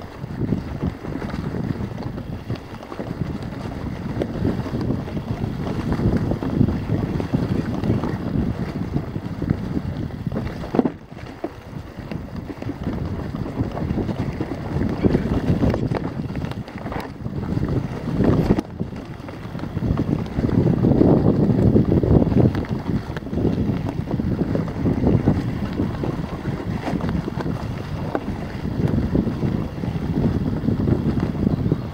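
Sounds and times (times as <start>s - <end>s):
wind buffeting microphone: 0.0s - 31.9s
bike knocking and rattling: 0.7s - 8.8s, 10.2s - 31.9s.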